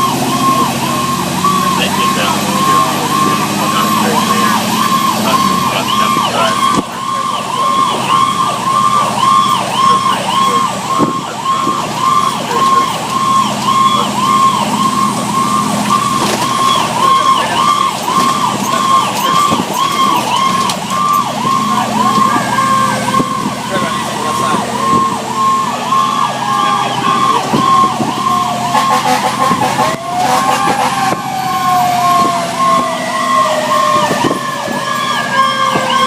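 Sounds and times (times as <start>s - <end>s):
fire engine siren yelping: 0.0s - 36.0s
truck engine running: 0.0s - 36.0s.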